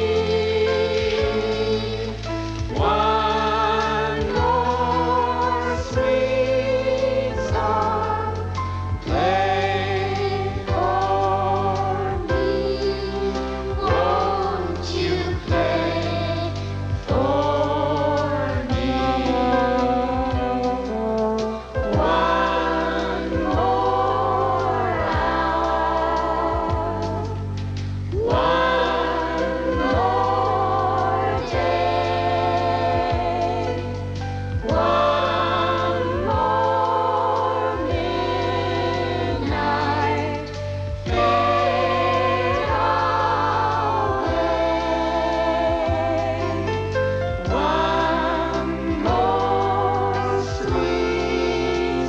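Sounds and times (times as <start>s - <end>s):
group of voices singing: 0.0s - 52.0s
instrumental accompaniment: 0.0s - 52.0s.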